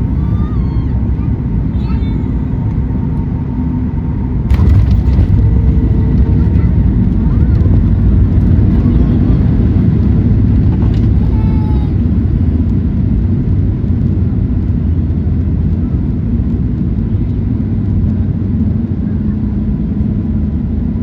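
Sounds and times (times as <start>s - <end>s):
aircraft cabin low rumble: 0.0s - 21.0s.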